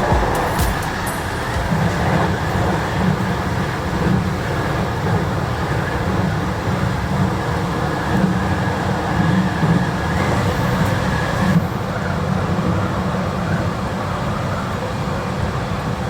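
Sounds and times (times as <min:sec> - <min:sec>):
train wheels rumbling: 0:00.0 - 0:13.4
faint high whine: 0:00.0 - 0:16.0.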